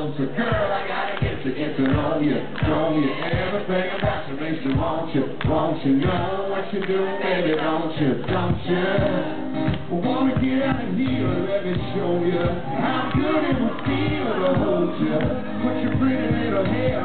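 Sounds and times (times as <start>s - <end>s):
man singing: 0.0s - 17.0s
steady drum beat: 0.4s - 6.4s, 8.2s - 17.0s.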